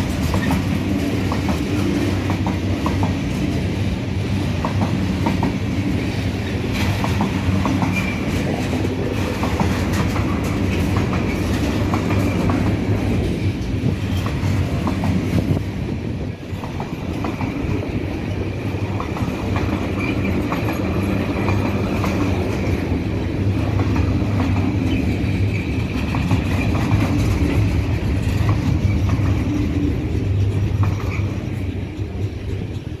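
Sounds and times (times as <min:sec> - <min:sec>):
freight train rumbling past: 0:00.0 - 0:33.0
wheels clacking over rail joints: 0:00.0 - 0:33.0.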